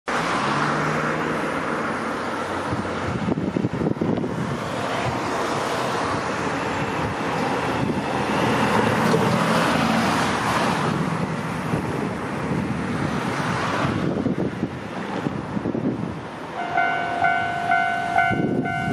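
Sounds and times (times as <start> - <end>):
road traffic noise: 0.0 - 18.9
vehicle passing by: 0.1 - 18.9
wind buffeting microphone: 2.6 - 18.9.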